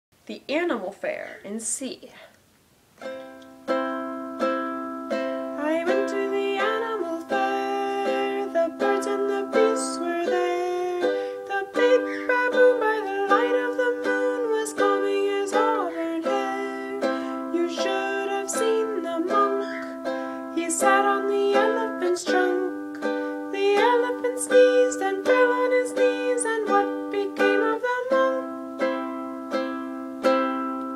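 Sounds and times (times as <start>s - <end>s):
ukulele strumming chords: 3.0s - 30.9s.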